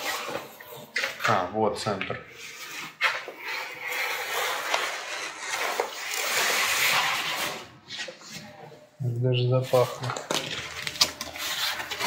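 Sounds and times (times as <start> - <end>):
wallpaper tearing: 0.0 - 1.6, 2.3 - 8.2, 9.7 - 12.0.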